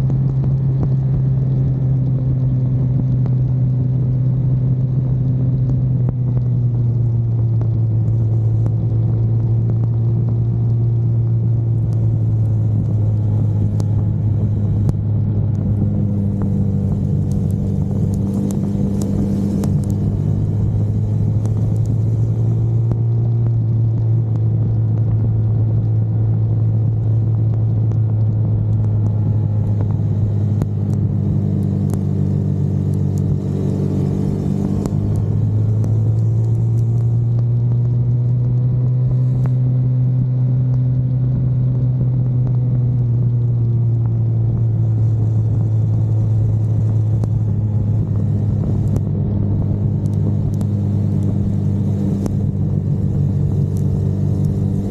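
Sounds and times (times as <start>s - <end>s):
car engine droning: 0.0s - 54.9s
road and wind noise: 0.0s - 54.9s.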